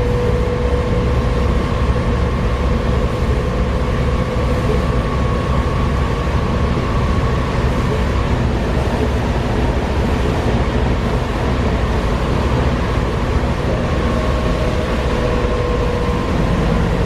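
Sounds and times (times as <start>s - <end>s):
bus engine rumble: 0.0s - 17.0s
higher whine: 0.0s - 17.0s
steady whine: 0.0s - 17.0s.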